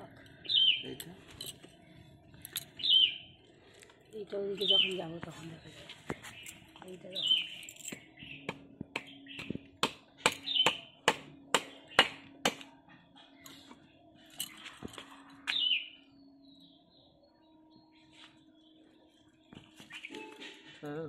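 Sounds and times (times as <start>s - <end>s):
bird chirping: 0.0s - 12.3s, 13.0s - 21.0s.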